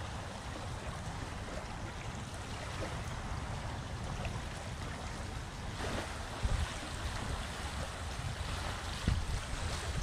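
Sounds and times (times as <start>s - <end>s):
feet wading through water: 0.0s - 10.0s
small waves lapping: 0.0s - 10.0s
wind buffeting microphone: 0.0s - 10.0s.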